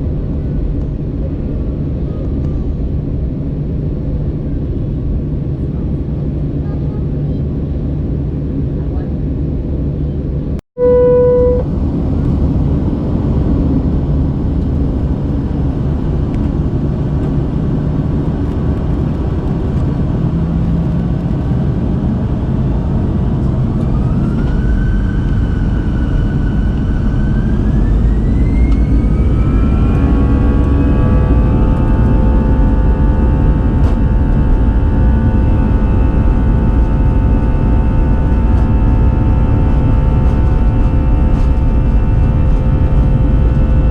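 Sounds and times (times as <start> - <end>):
jet engines rumbling and whining: 0.0 - 43.9.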